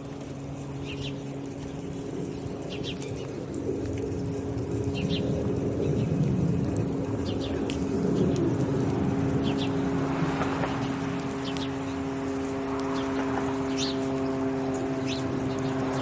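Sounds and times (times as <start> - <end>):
propeller aircraft drone: 0.0 - 16.0
small birds chirping: 0.4 - 16.0.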